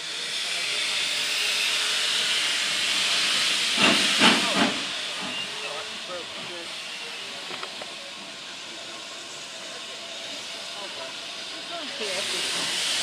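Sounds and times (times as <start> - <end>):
steam locomotive chuffs: 0.0 - 13.0
steam locomotive hissing: 0.0 - 13.0.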